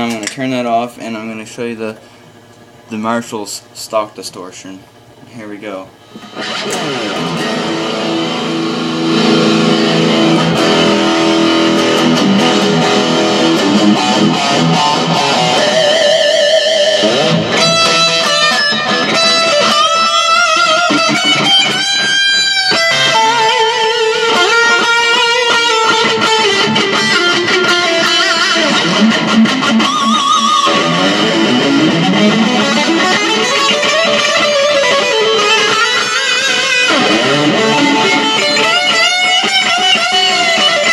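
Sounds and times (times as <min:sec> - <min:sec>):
distorted electric guitar riffs: 0:05.6 - 0:40.9.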